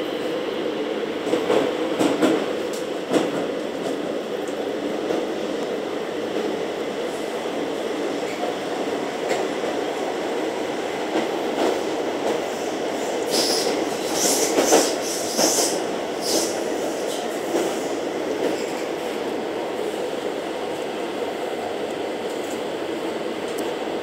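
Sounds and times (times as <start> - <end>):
train rumbling in tunnel: 0.0 - 24.0.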